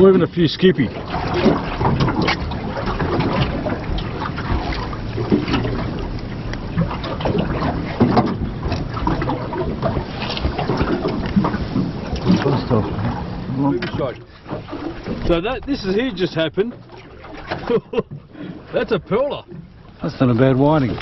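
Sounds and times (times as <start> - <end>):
knocks and splashes: 0.0 - 21.0
water slapping against boat hull: 0.0 - 21.0
wind: 0.0 - 21.0.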